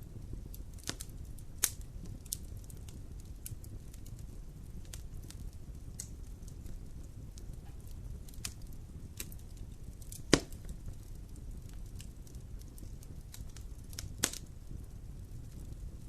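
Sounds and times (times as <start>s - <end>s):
fire crackling in fireplace: 0.0s - 16.0s
loud pop of fire: 0.1s - 14.8s.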